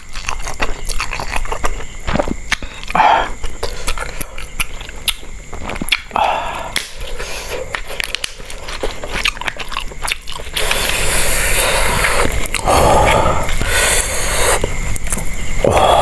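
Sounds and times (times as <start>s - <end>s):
crisp crunching and chewing: 0.0s - 15.6s.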